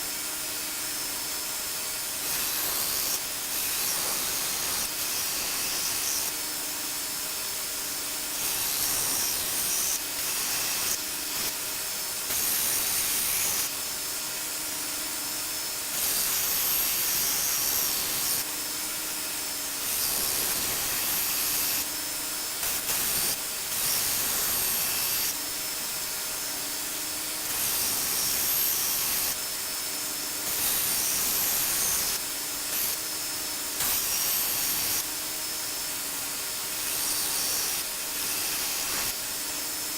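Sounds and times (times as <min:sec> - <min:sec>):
blade grinding on sander belt: 0:00.9 - 0:06.6, 0:08.3 - 0:13.9, 0:15.3 - 0:25.4, 0:26.1 - 0:39.9.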